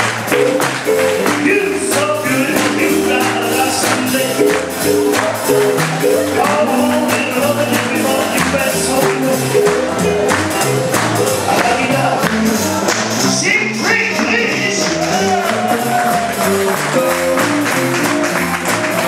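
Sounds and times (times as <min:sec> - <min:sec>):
live band playing boogie-woogie blues: 0:00.0 - 0:19.0.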